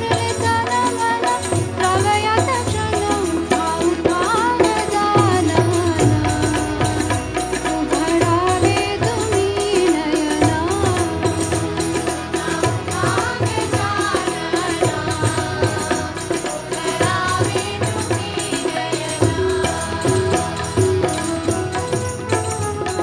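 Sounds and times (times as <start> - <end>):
harmonium: 0.0 - 23.0
tabla: 0.0 - 23.0
women singing devotional song: 0.0 - 23.0.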